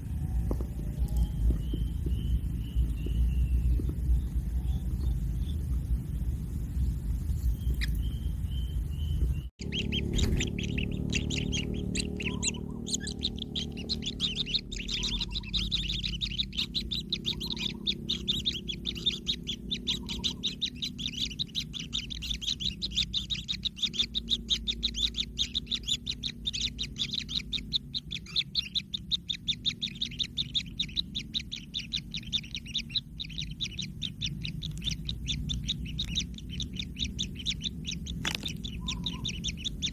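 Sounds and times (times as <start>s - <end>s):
chicks chirping rapidly: 0.0s - 39.9s
low rumble: 0.0s - 39.9s
low steady hum: 0.0s - 39.9s.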